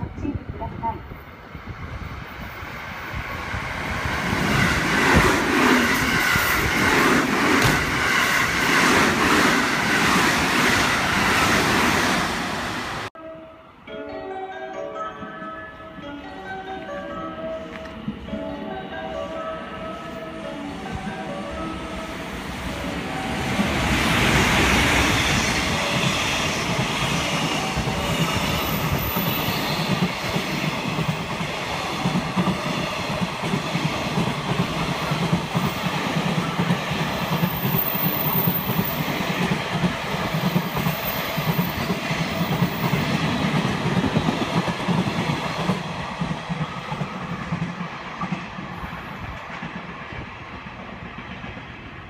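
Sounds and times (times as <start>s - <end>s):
train wheels rumbling on rails: 0.0s - 13.1s, 20.8s - 52.0s.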